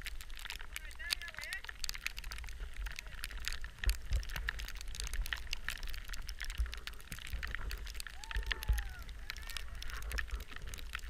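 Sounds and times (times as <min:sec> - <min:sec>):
skis running over snow: 0:00.0 - 0:11.0
wind rumble on microphone: 0:00.0 - 0:11.0.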